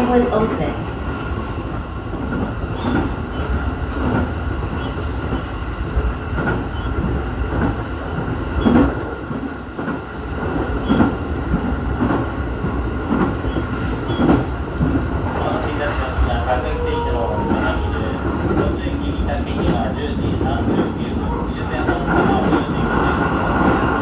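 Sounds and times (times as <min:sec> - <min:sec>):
train interior rumble: 0:00.0 - 0:24.0.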